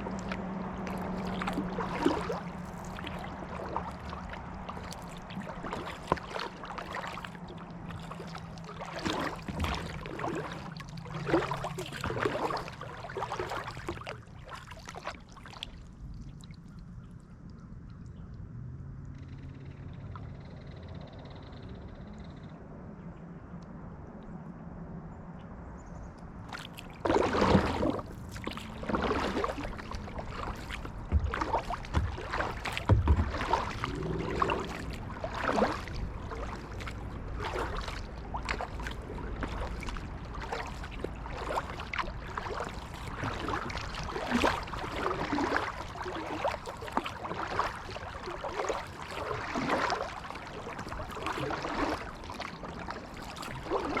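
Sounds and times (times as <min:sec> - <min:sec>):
kayak paddle splashing: 0:00.0 - 0:18.3, 0:26.4 - 0:54.0.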